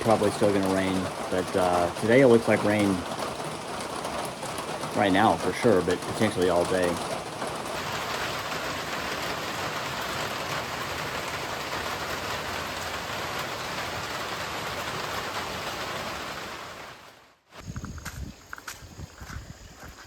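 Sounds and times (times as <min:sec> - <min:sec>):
steady rain: 0:00.0 - 0:17.5.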